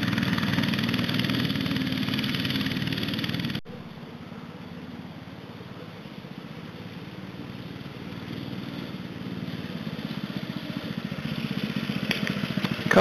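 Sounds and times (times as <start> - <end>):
small go-kart engine running: 0.0 - 13.0.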